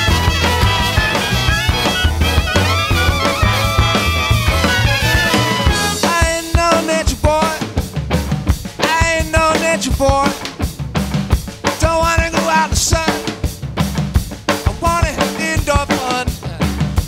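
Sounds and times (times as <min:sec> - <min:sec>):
upbeat music with drum beat: 0:00.0 - 0:17.0.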